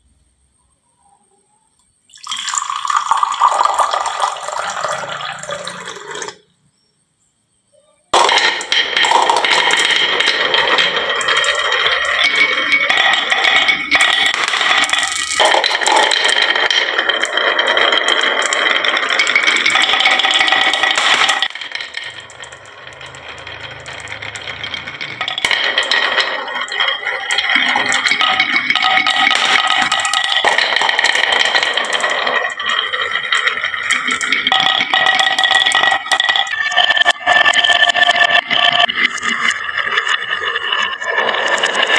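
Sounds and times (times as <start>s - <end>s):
marbles clattering down wooden run: 2.1s - 6.4s, 8.1s - 41.9s
steady ringing: 8.2s - 41.9s.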